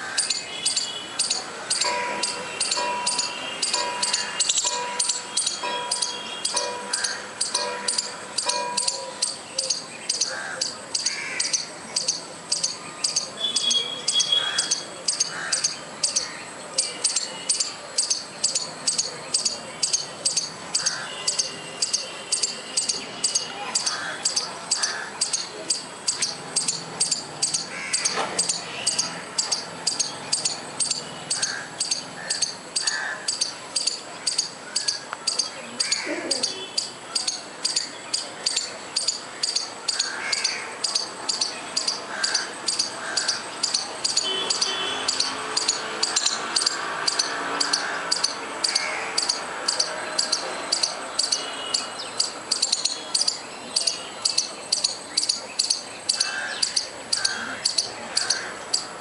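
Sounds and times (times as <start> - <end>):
squirrel chirping: 0.0 - 59.0.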